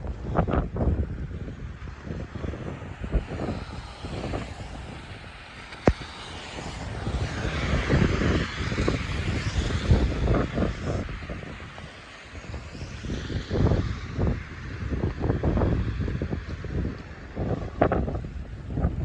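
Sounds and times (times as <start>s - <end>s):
rushing noise: 0.0s - 19.0s
wind buffeting microphone: 0.0s - 19.0s.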